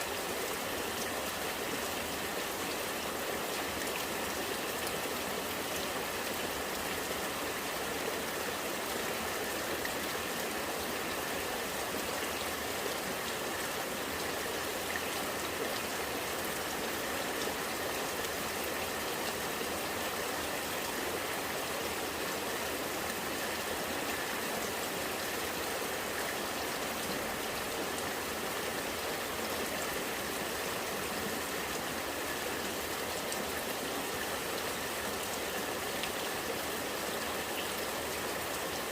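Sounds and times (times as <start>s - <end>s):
rain falling: 0.0s - 38.9s
rainwater running and gurgling: 0.0s - 38.9s.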